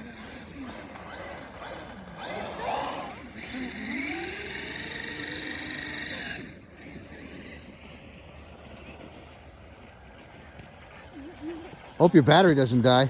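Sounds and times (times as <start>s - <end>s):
electric motor whining: 0.0s - 10.6s.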